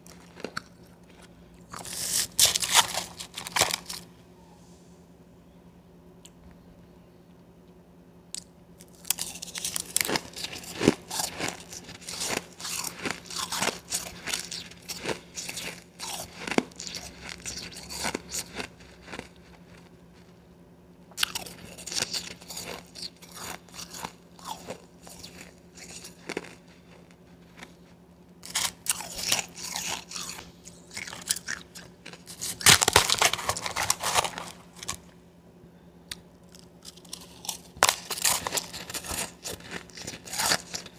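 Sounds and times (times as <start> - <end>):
crunching and chewing ice: 0.0 - 4.1, 8.4 - 20.4, 21.1 - 35.2, 36.1 - 40.9.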